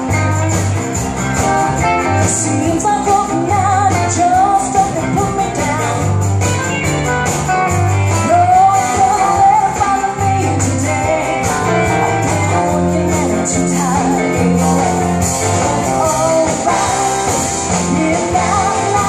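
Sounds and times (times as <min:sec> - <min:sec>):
live country band: 0:00.0 - 0:19.0
woman singing: 0:02.2 - 0:06.5, 0:08.0 - 0:19.0.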